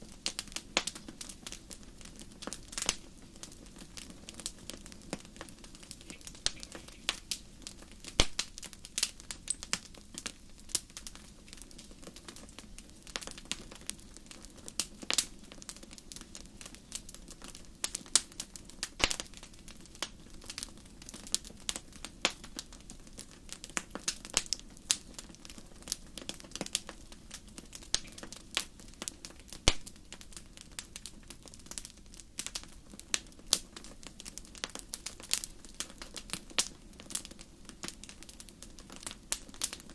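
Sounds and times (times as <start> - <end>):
flames rumbling: 0.0 - 39.9
wood fire crackling: 0.0 - 39.9.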